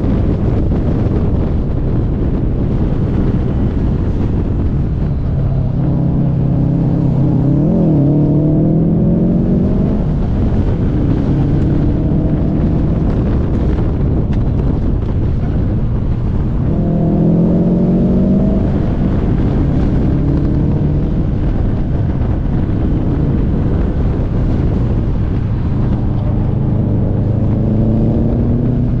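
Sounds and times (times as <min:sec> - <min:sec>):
car engine accelerating: 0:00.0 - 0:29.0
heavy wind: 0:00.0 - 0:29.0
road rumble: 0:00.0 - 0:29.0.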